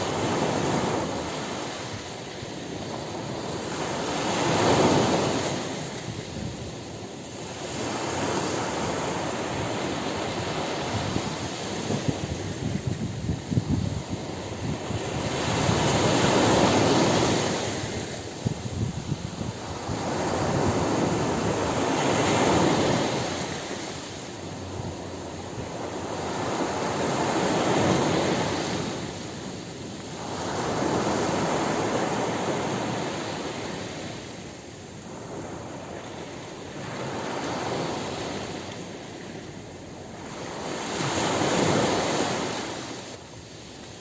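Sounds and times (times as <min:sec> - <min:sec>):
ocean surf breaking on beach: 0:00.0 - 0:44.0.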